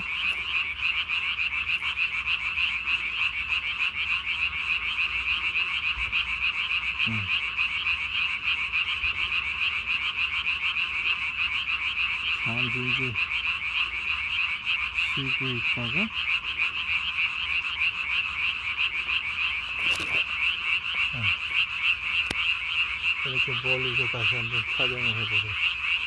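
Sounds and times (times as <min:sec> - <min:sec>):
tree frogs calling: 0:00.0 - 0:26.0.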